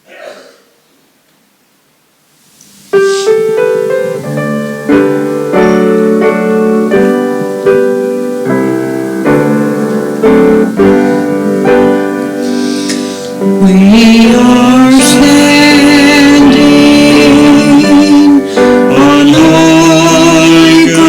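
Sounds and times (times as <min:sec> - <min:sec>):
piano playing hymn chords: 0:02.6 - 0:21.0.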